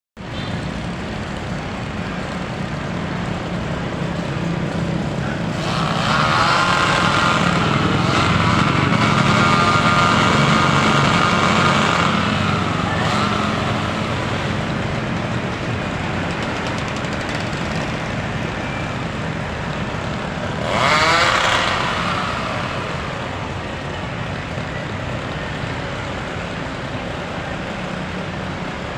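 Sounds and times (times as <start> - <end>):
high-pitched engine whine: 0.2 - 28.9
motor engines running: 0.2 - 28.9.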